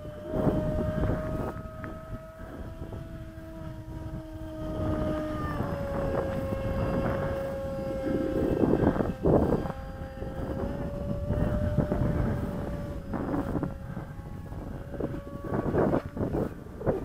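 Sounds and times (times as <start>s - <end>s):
model plane motor whine: 0.0s - 17.0s
wind rumbling on microphone: 0.0s - 17.0s.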